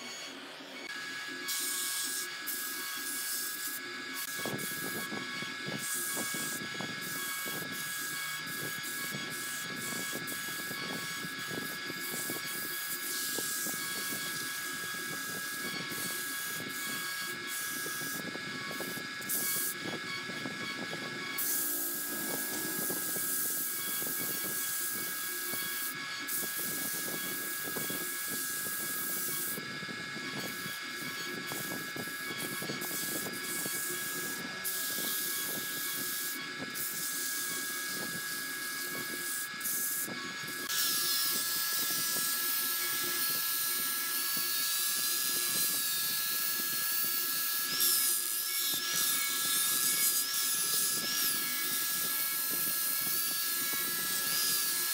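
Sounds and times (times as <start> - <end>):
angle grinder sanding: 0.0 - 54.9
wood lathe motor whining: 0.0 - 54.9.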